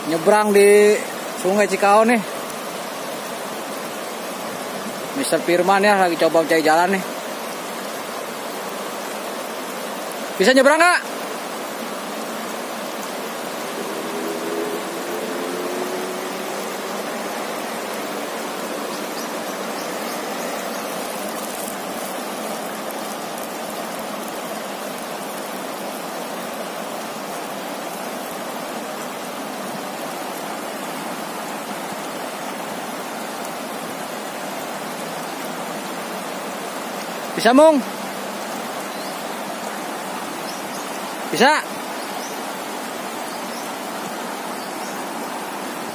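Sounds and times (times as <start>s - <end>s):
river rushing over rocks: 0.0s - 45.9s.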